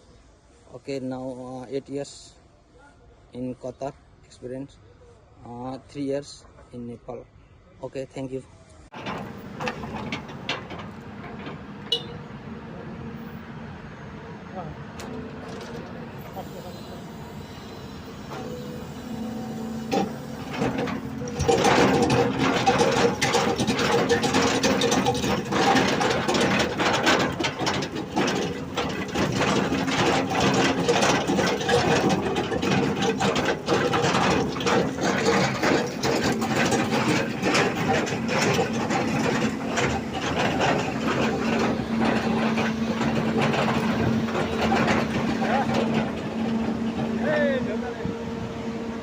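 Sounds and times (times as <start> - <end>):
excavator engine humming: 8.9 - 49.0
metallic rattling and clanking: 8.9 - 49.0.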